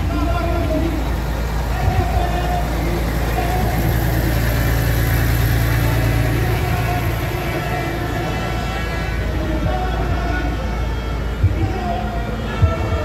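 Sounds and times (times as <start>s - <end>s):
diesel tractors idling: 0.0s - 13.0s.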